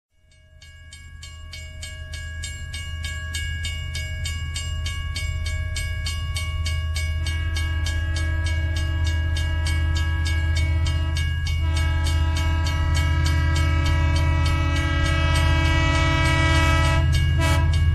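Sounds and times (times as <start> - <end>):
model train humming: 0.3 - 17.9
sustained tones: 1.2 - 17.9.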